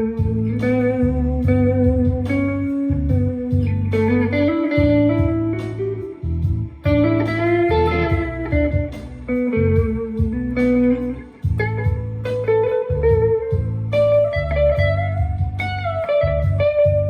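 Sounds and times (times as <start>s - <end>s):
low bass part: 0.0s - 17.0s
overdriven electric guitar lead: 0.0s - 17.0s.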